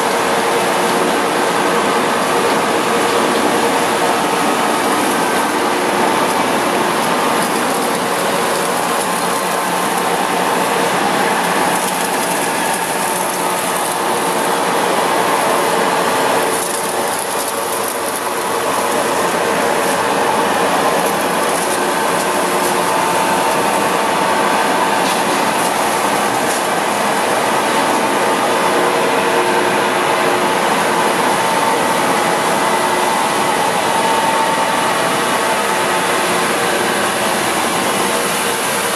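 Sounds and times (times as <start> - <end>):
coolant pouring into tank: 0.0 - 38.9
surface grinder running: 0.0 - 38.9.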